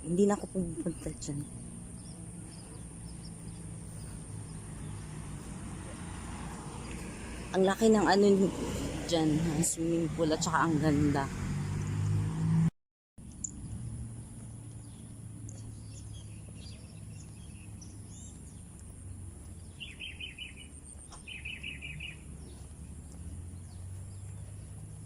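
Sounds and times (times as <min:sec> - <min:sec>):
small birds chirping: 0:00.0 - 0:09.8, 0:13.2 - 0:25.0
outdoor background noise: 0:00.0 - 0:25.0.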